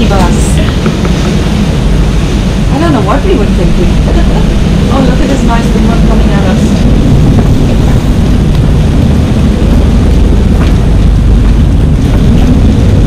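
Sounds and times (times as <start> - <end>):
breaking waves rushing: 0.0 - 13.0
wind buffeting microphone: 0.0 - 13.0.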